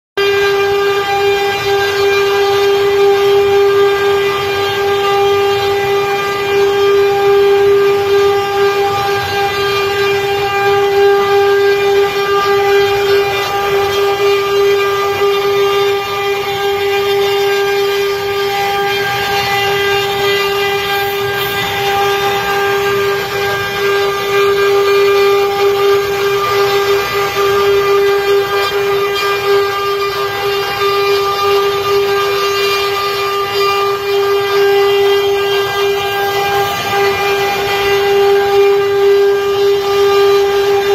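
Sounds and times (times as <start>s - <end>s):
router spindles whining: 0.2s - 40.9s.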